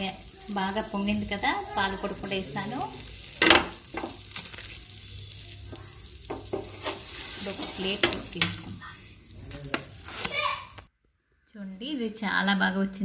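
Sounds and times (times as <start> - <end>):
egg sizzling: 0.0 - 10.9
spatula scraping frying pan: 0.0 - 10.9.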